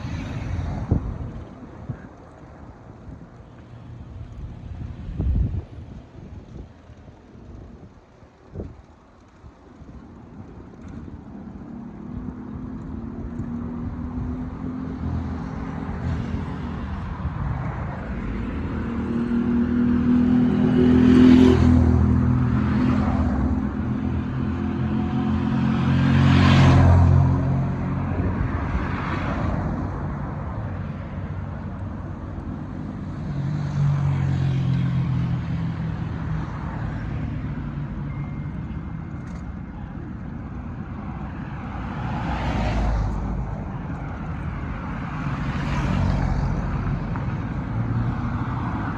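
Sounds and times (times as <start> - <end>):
vehicles passing: 0.0 - 48.9.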